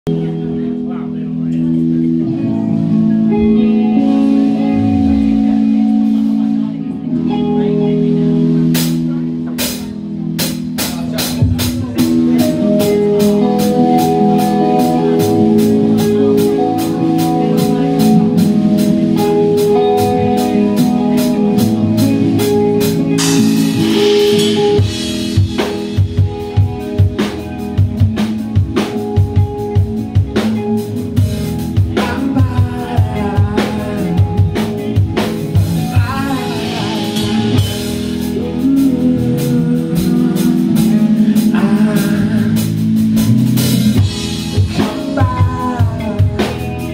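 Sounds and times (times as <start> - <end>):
rock band playing: 0.1 - 46.9.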